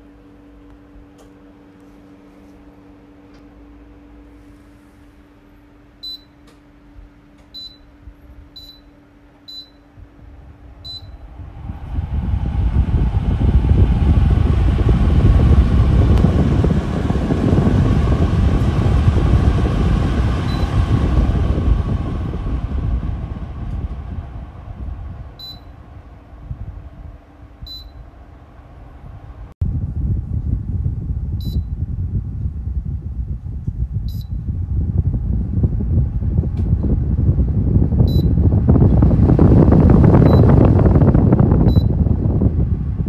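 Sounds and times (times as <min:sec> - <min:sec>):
air purifier fan running: 0:00.0 - 0:43.0.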